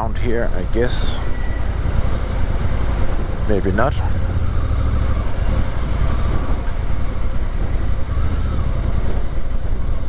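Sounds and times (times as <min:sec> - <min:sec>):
motorcycle engine rumble: 0:00.0 - 0:10.0
road noise: 0:00.0 - 0:10.0.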